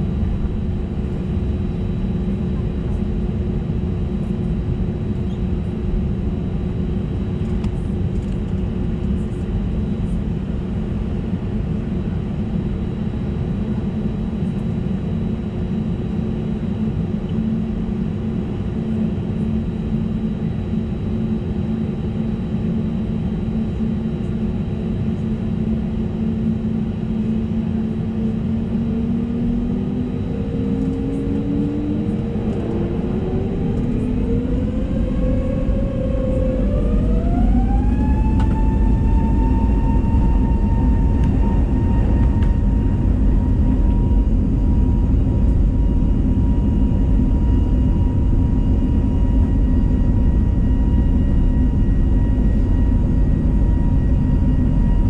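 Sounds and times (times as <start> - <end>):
faint high engine whine: 0.0 - 55.0
jet engine rumble in cabin: 0.0 - 55.0.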